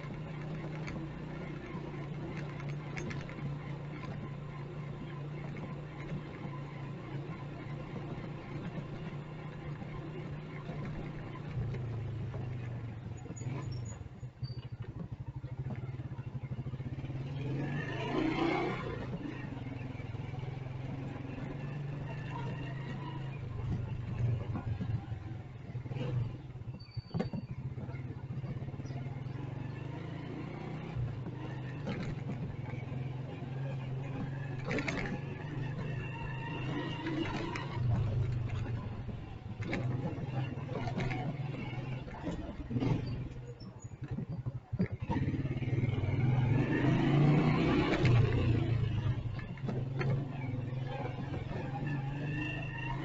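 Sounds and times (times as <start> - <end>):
motorcycle engine running: 0.0 - 53.0
street traffic: 0.0 - 53.0.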